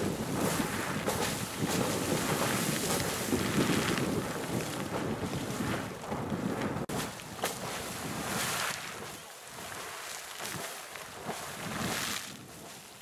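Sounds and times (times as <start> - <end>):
wind buffeting microphone: 0.0 - 9.8, 10.4 - 12.8
geyser water splashing: 0.0 - 12.8.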